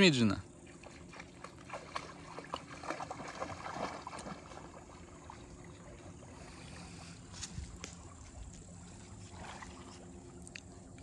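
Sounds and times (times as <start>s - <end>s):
light splashing of river water: 0.0s - 11.0s.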